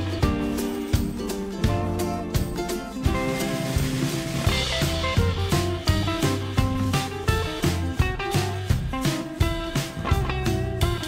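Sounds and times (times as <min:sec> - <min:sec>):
drum beat: 0:00.0 - 0:11.0
plucked strings: 0:00.0 - 0:11.0.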